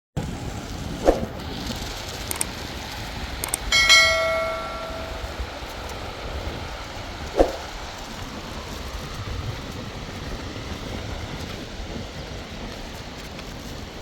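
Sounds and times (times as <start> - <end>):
rushing outdoor noise: 0.2 - 14.0.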